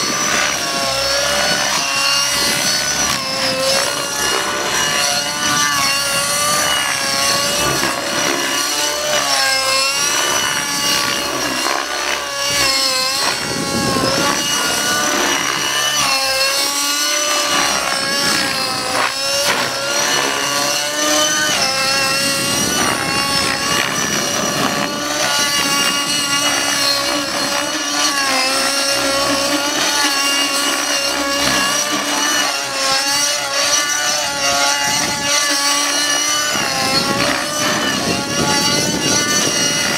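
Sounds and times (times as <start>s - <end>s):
rc helicopter engine whine: 0.0s - 39.9s
rotor blades: 0.0s - 39.9s.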